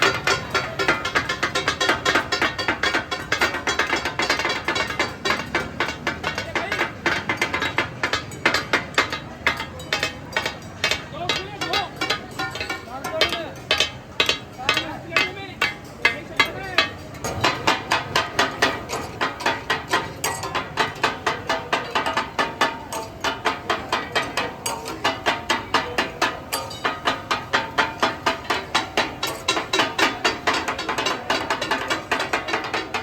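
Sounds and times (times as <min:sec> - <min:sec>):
metal spatulas clacking on griddle: 0:00.0 - 0:33.0
voices: 0:00.0 - 0:33.0.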